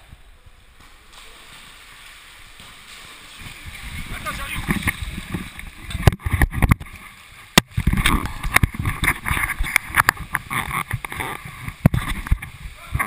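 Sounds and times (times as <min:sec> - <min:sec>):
water churning and sloshing: 0:00.0 - 0:13.0.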